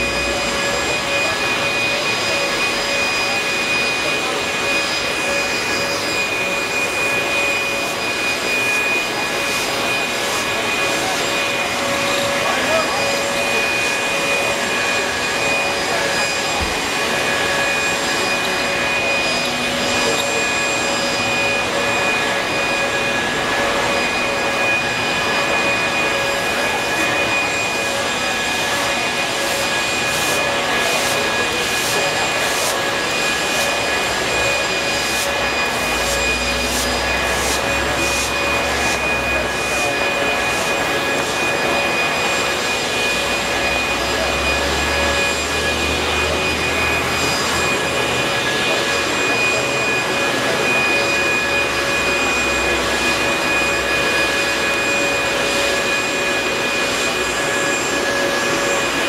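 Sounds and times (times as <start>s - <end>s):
leaf blower whining: 0.0s - 59.0s.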